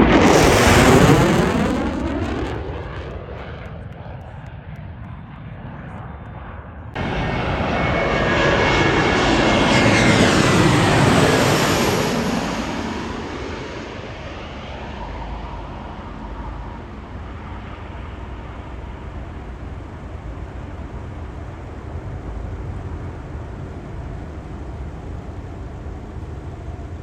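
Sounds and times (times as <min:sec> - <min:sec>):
airplane flying past: 0:00.0 - 0:27.0.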